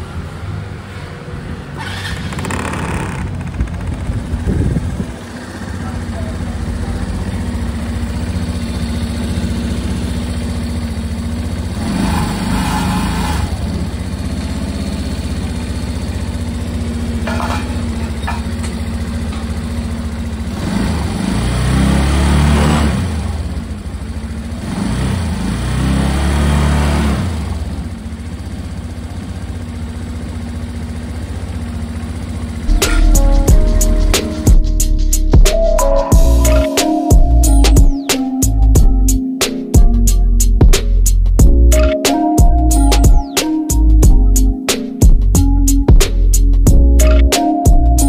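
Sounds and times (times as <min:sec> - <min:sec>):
scooter engine idling and revving: 0:00.0 - 0:48.0.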